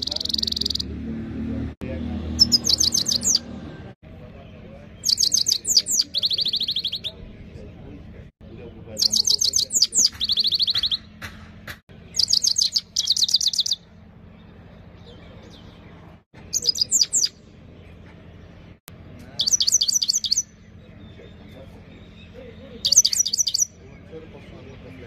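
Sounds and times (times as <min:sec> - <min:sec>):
finch twittering song: 0:00.0 - 0:01.0, 0:02.3 - 0:25.0.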